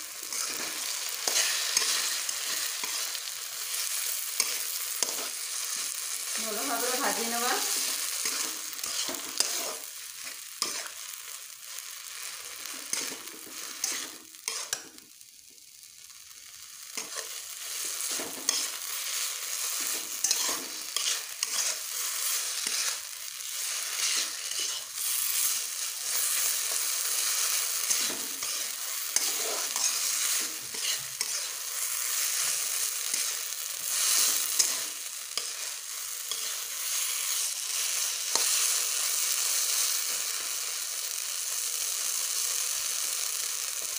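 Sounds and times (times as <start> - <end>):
food sizzling in oil: 0.0 - 43.9
spatula scraping a pan: 0.2 - 11.1, 12.2 - 15.0, 16.9 - 38.7.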